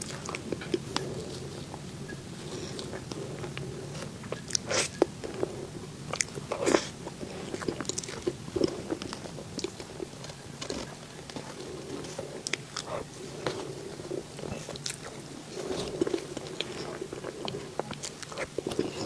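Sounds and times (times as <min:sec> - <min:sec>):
person biting and chewing: 0:00.0 - 0:19.0.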